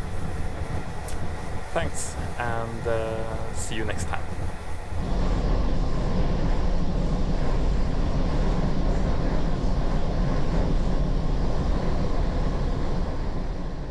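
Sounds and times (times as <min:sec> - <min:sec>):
train rumbling along track: 0:00.0 - 0:13.9.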